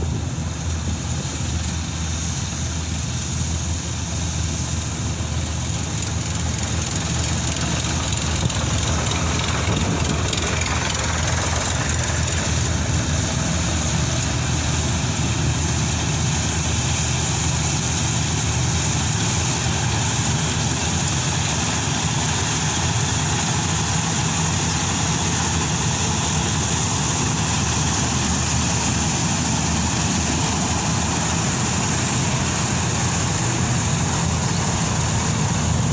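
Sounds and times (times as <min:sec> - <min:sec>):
combine harvester engine drone: 0:00.0 - 0:35.9
machinery hissing: 0:00.0 - 0:35.9.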